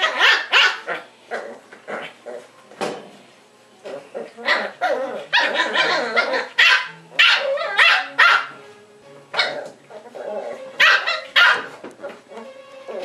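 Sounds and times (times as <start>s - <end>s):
puppies yapping: 0.0s - 2.5s, 3.8s - 8.6s, 9.4s - 13.0s.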